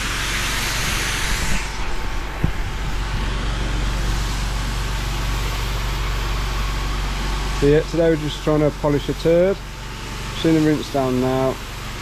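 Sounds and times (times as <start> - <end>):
pressure washer engine running: 0.0 - 12.0
water jet hissing on slabs: 0.0 - 12.0.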